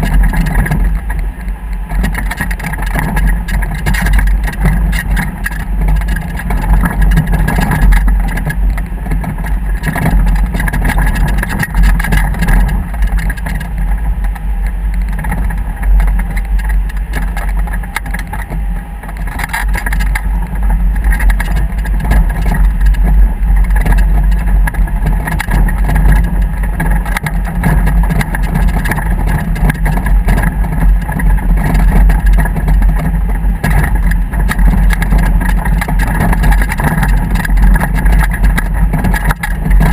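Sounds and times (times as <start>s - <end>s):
motorboat engine: 0.0s - 39.9s
wind buffeting microphone: 0.0s - 39.9s.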